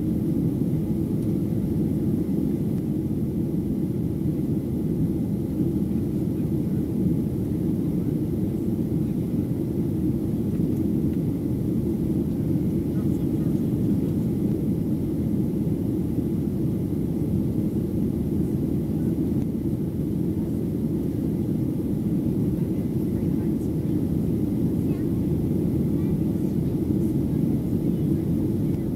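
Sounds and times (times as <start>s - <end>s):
airplane cabin engine rumble: 0.0s - 28.9s.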